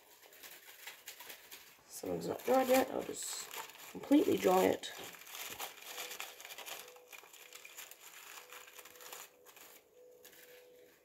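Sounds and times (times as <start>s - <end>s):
crinkling and rustling by hand: 0.0s - 11.0s.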